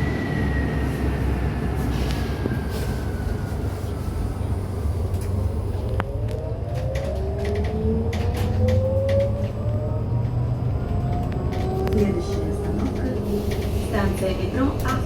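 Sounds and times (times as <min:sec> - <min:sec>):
electric bus drivetrain whine: 0:00.0 - 0:15.0
low road rumble: 0:00.0 - 0:15.0.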